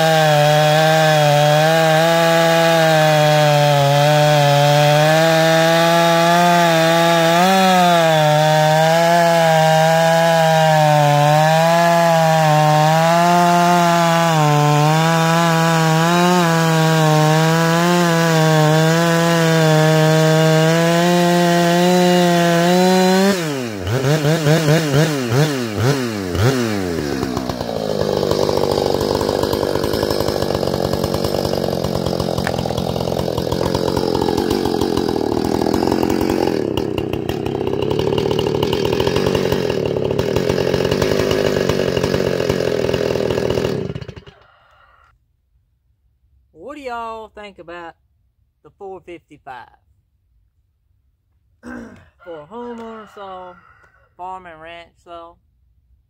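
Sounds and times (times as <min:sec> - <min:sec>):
chainsaw cutting at full throttle: 0:00.0 - 0:44.7, 0:51.6 - 0:53.8.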